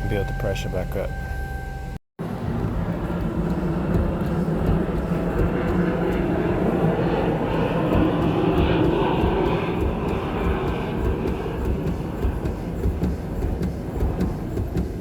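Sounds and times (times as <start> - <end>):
road noise: 0.0 - 15.0
van engine rumble: 0.0 - 15.0.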